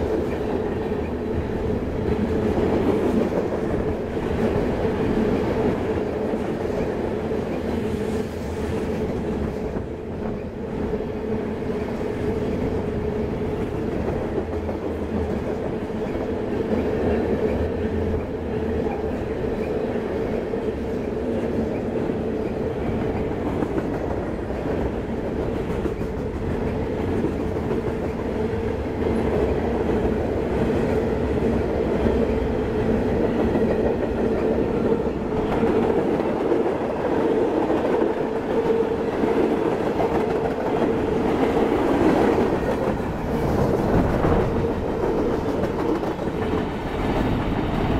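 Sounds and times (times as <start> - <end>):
clickety-clack over rail joints: 0.0 - 11.0, 11.6 - 47.9
train wheels rumbling: 0.0 - 47.9.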